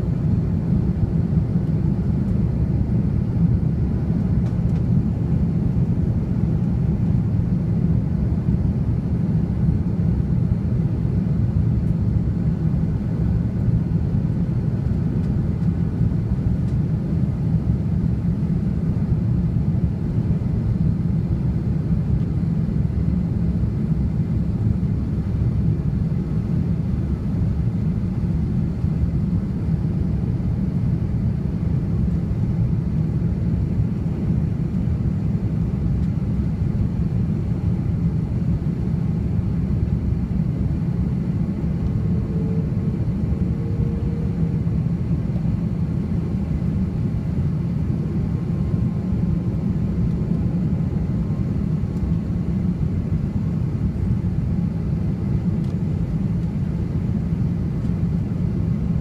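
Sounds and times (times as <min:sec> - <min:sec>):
jet cabin engine rumble: 0:00.0 - 0:59.0.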